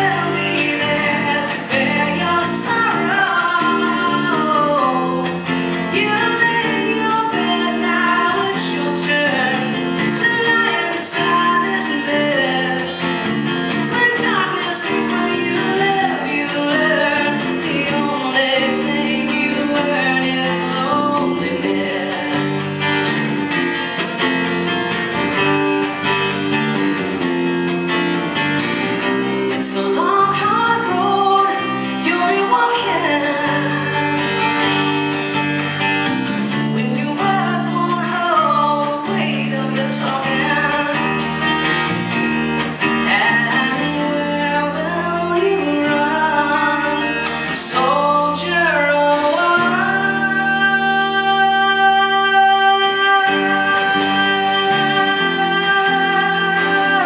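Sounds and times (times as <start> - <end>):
acoustic guitar chords: 0.0 - 57.0.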